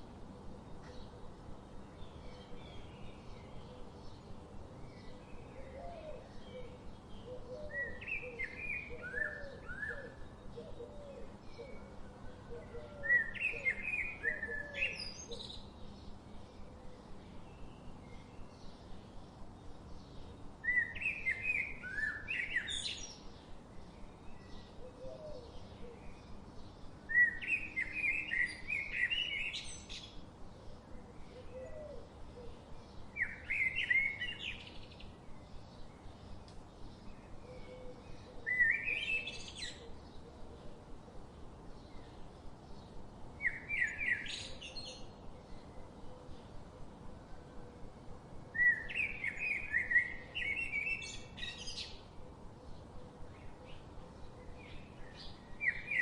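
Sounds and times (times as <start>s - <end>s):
faint bird chirping: 0.0s - 56.0s.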